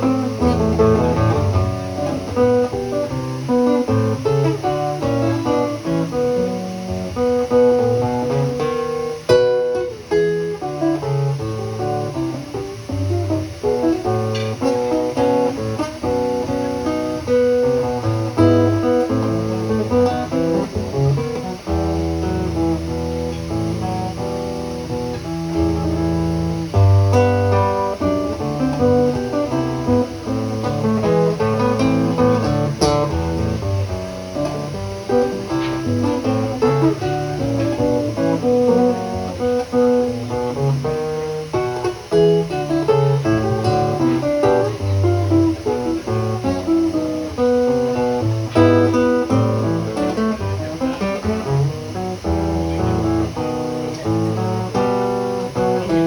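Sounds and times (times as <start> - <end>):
plucked string instrument music: 0.0 - 56.0.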